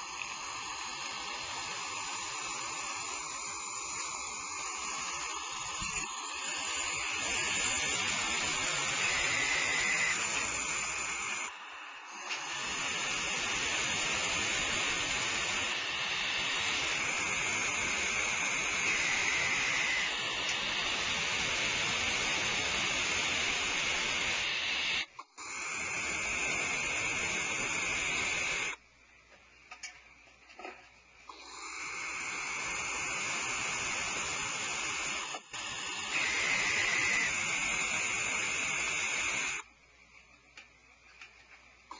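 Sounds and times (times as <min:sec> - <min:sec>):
barn owls hissing calls: 0:00.0 - 0:28.8, 0:31.3 - 0:39.7.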